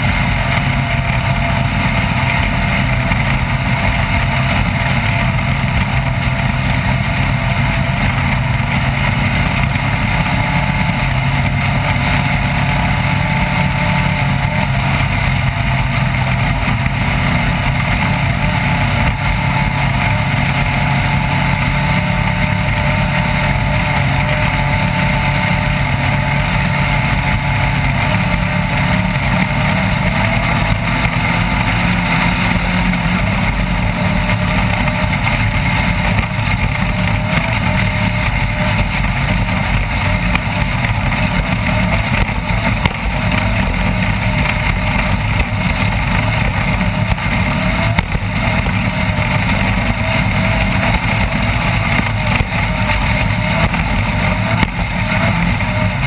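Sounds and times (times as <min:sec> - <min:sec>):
constant rushing noise: 0:00.0 - 0:56.0
race vehicle engine running hard: 0:00.0 - 0:56.0.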